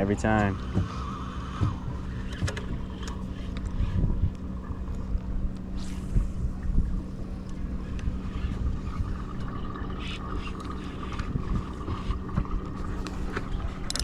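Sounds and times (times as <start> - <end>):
steady low hum: 0.0 - 14.0
wind buffeting microphone: 0.0 - 14.0.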